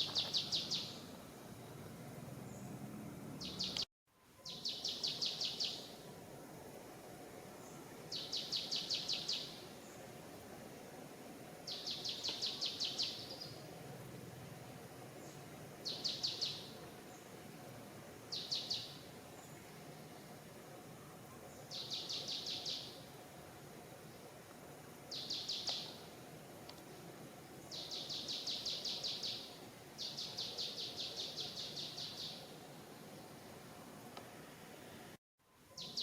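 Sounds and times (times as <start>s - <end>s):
forest background noise: 0.0s - 36.0s.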